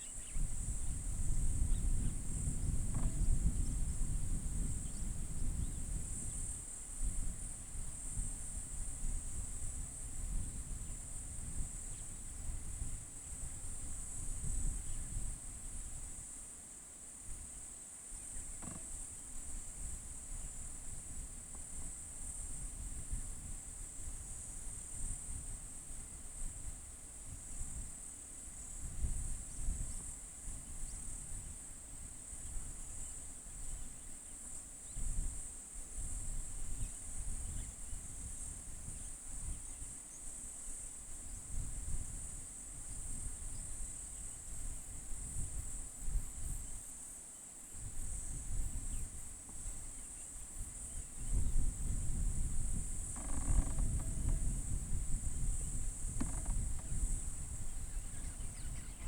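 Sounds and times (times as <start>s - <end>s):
insects chirping: 0.0s - 16.3s, 17.4s - 26.3s, 27.6s - 59.0s
wind rumbling on microphone: 0.0s - 16.4s, 18.2s - 34.1s, 34.8s - 46.9s, 47.8s - 59.0s.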